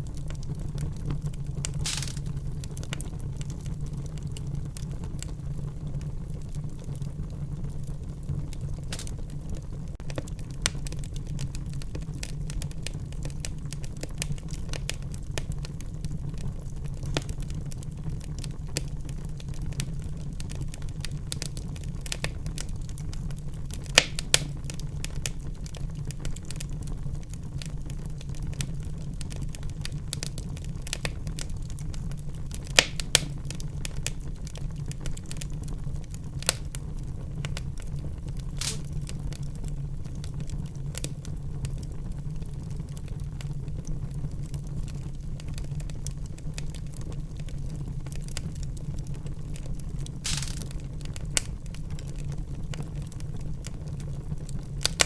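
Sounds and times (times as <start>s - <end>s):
fire rumbling: 0.0s - 55.0s
wood fire crackling and popping: 0.0s - 55.0s.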